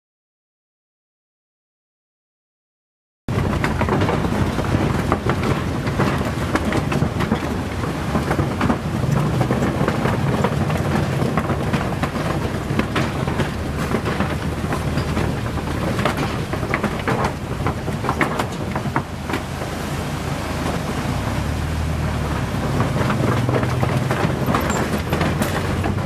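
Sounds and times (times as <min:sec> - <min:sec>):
vehicle engine running: 0:03.3 - 0:26.0
wooden planks clattering under tyres: 0:03.3 - 0:26.0.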